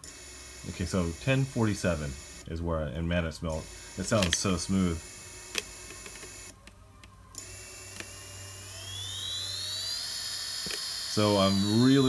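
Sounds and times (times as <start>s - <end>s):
electric motors whining: 0.0s - 2.6s, 3.5s - 12.0s.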